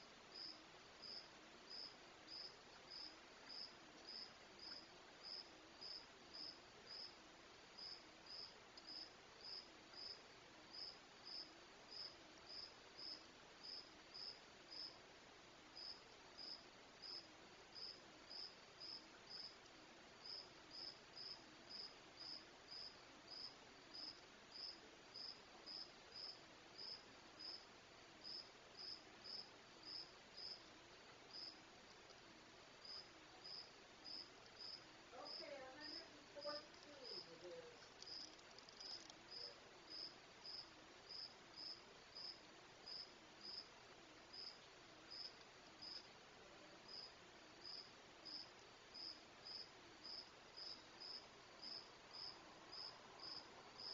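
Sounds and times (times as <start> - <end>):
cricket chirping: 0.3 - 7.2, 7.8 - 15.0, 15.8 - 19.6, 20.2 - 30.6, 31.3 - 32.2, 32.8 - 43.7, 44.3 - 46.1, 46.9 - 53.9.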